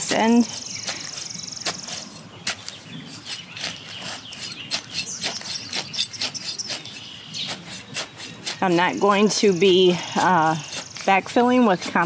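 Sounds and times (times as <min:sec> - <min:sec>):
dry straw crackling: 0:00.0 - 0:12.0
faint bird chirps: 0:00.3 - 0:11.1.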